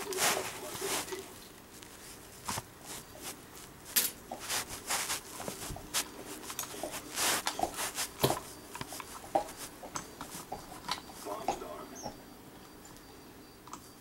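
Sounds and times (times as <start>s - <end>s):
cat scuffling on carpet: 0.0s - 11.4s.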